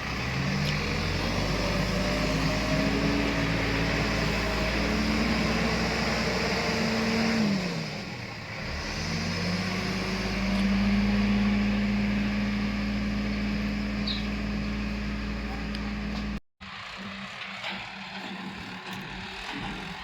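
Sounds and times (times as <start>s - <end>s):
backhoe diesel engine running: 0.0s - 20.0s.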